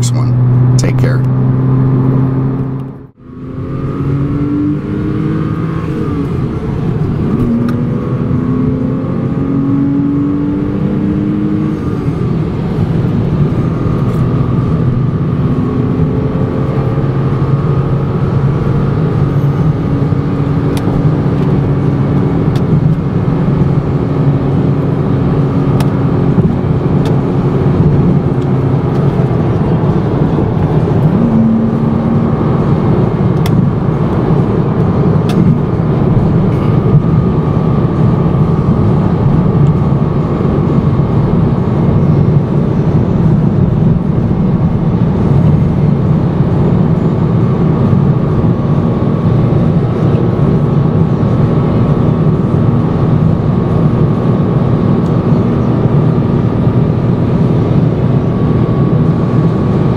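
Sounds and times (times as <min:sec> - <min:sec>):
car engine accelerating through gears: 0:00.0 - 0:59.9
tyre and road noise: 0:00.0 - 0:59.9.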